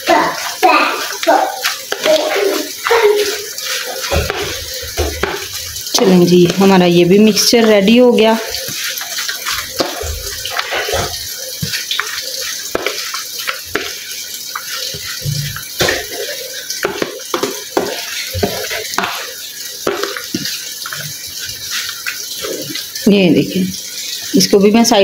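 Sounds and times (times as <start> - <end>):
spoon stirring in plastic bowl: 0.4 - 22.8.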